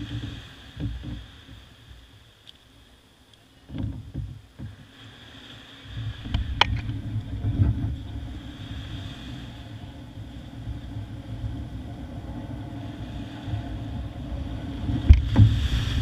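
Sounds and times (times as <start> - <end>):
plastic hull scraping over sand: 0.0 - 1.6, 3.7 - 16.0.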